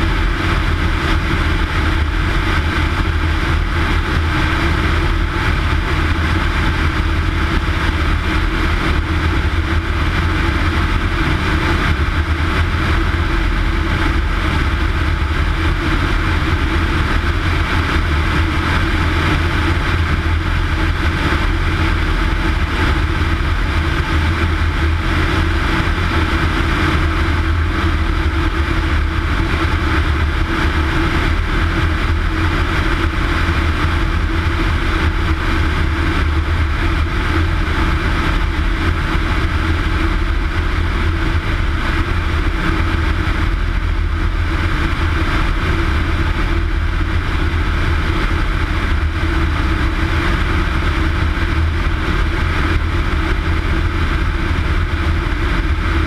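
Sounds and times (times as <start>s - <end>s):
plane engine and propeller: 0.0s - 56.0s
wind rushing over microphone: 0.0s - 56.0s.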